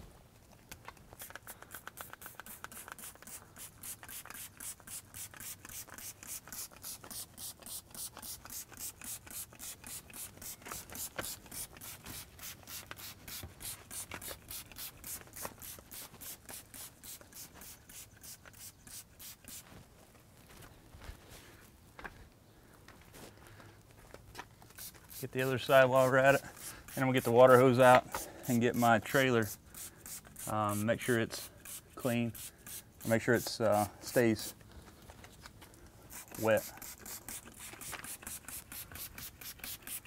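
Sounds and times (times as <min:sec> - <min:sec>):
spray bottle squirting: 0:01.0 - 0:19.7, 0:24.6 - 0:34.6, 0:36.1 - 0:40.0.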